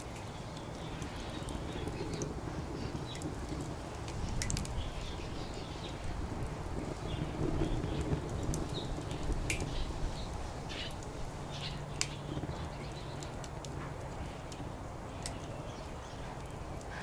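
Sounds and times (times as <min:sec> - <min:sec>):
distant traffic rumble: 0:00.0 - 0:17.0
wood fire crackling: 0:00.0 - 0:17.0.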